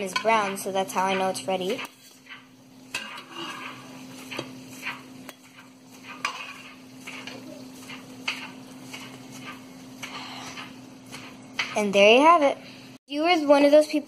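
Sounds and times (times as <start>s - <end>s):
spatula scraping frying pan: 0.0s - 12.5s
faint sizzle: 0.0s - 14.0s.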